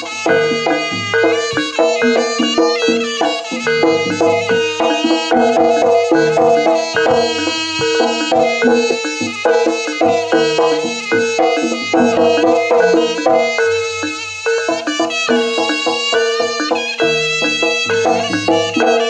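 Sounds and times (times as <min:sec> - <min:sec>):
hand drums and percussion: 0:00.0 - 0:19.0
reedy melody: 0:00.0 - 0:19.0.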